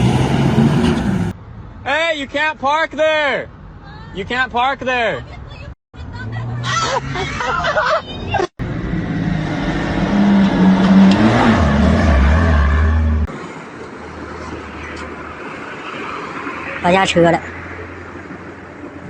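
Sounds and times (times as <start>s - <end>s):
vehicle engine with road noise: 0.0s - 19.0s.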